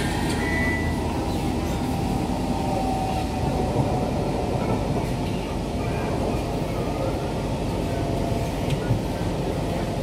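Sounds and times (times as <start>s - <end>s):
metro train running: 0.0s - 10.0s.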